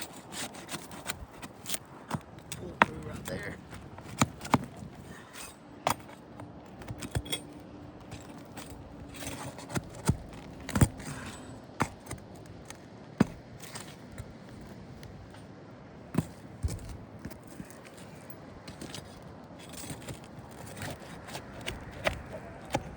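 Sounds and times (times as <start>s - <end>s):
nails pried out of shingles: 0.0s - 15.2s, 16.1s - 22.9s
scraping: 0.0s - 15.5s, 16.1s - 22.9s.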